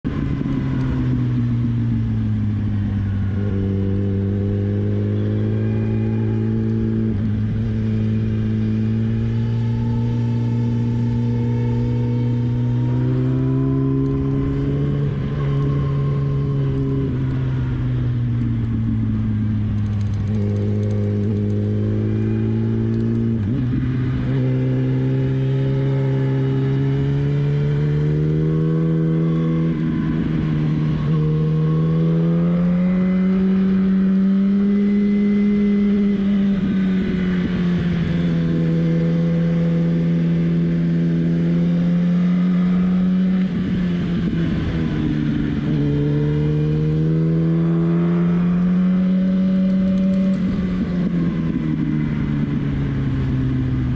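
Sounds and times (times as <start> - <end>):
motorcycle engine cruising: 0.0 - 53.9.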